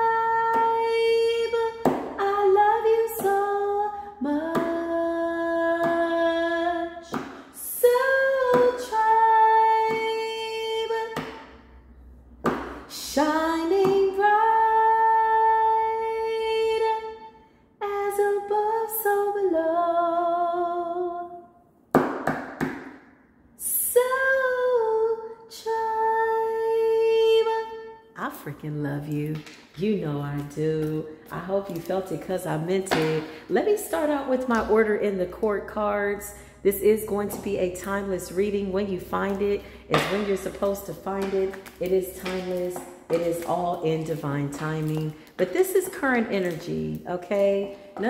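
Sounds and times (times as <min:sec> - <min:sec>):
woman singing unaccompanied: 0:00.0 - 0:11.3, 0:12.9 - 0:21.5, 0:23.6 - 0:48.0.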